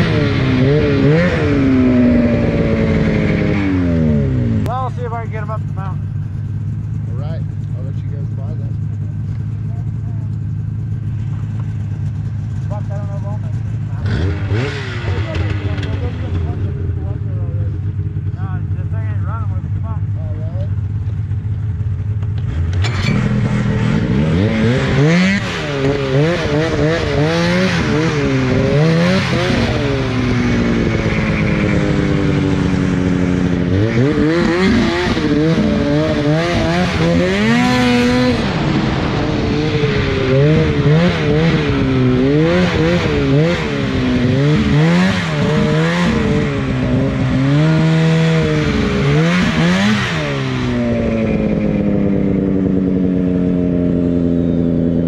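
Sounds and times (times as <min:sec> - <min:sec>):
snowmobile engine revving: 0:00.0 - 0:21.4, 0:22.4 - 0:55.0
track and snow noise: 0:00.0 - 0:55.0.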